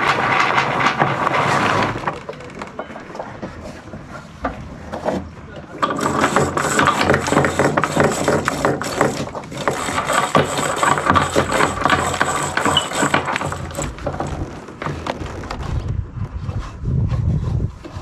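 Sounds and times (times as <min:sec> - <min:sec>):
battens knocking: 0:00.0 - 0:15.5
lines running through blocks: 0:00.0 - 0:15.7.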